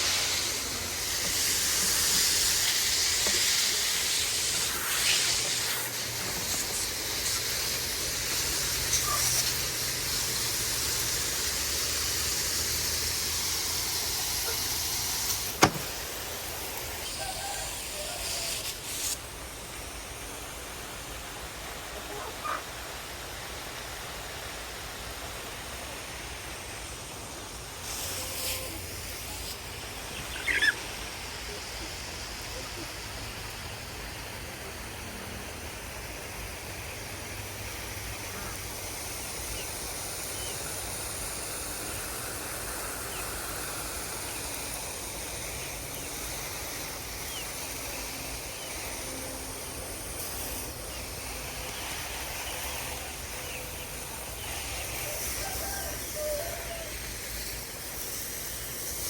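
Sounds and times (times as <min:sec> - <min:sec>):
garden hose spraying water: 0:00.0 - 0:59.0.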